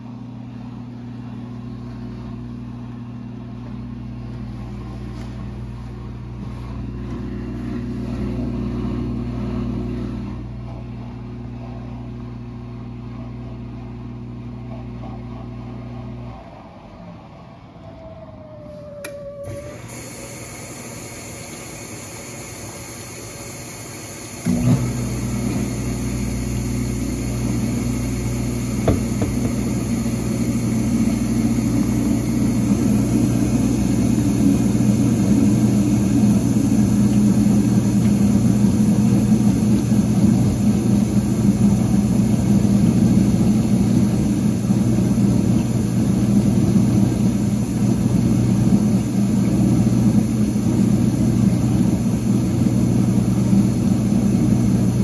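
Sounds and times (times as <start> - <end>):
dishwasher motor humming: 0.0 - 17.3, 18.9 - 55.0.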